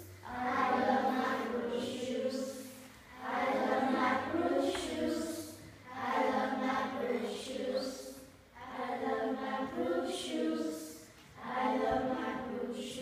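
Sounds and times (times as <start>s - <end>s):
children singing: 0.0s - 13.0s.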